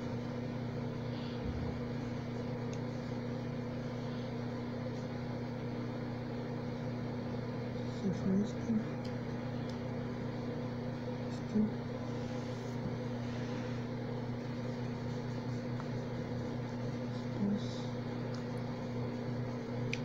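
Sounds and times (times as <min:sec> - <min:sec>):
electric fan motor humming: 0:00.0 - 0:20.0.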